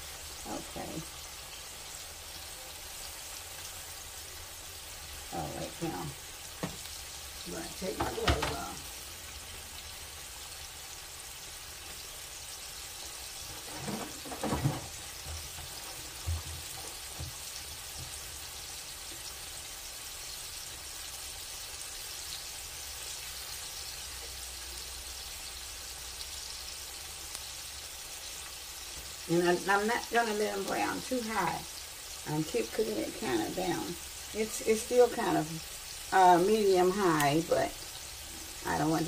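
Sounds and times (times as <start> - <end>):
meat frying in grease: 0.0 - 39.0.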